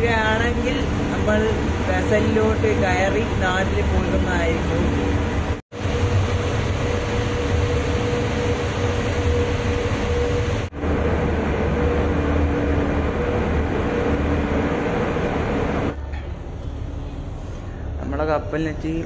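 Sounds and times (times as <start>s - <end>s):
propeller wash rushing: 0.0s - 16.0s
ship engines rumbling: 0.0s - 19.0s.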